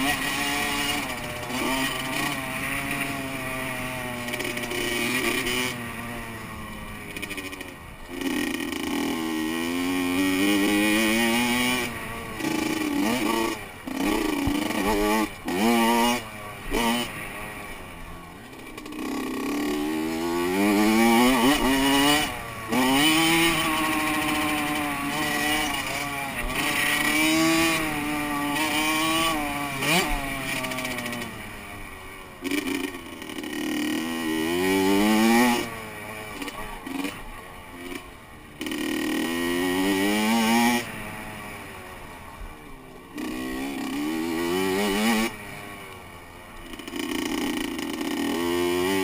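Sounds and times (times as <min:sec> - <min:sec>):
motocross bike engine revving: 0:00.0 - 0:49.0.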